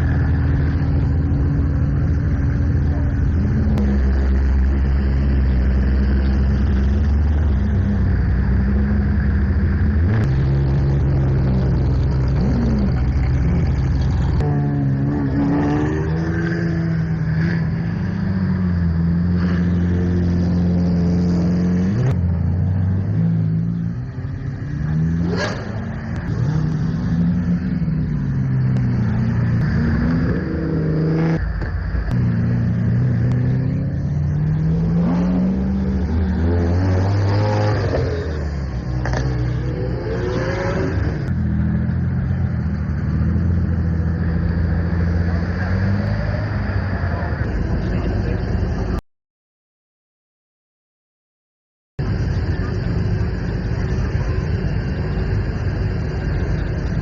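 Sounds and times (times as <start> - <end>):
sports car engines revving: 0.0 - 49.0, 52.0 - 57.0.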